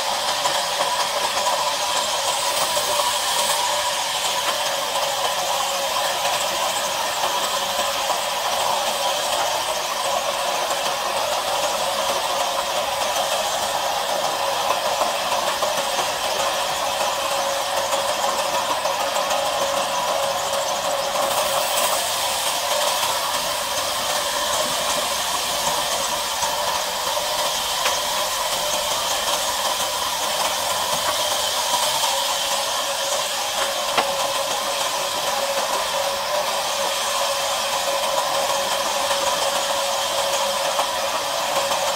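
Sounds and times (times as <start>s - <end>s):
band saw cutting wood: 0.0s - 41.9s.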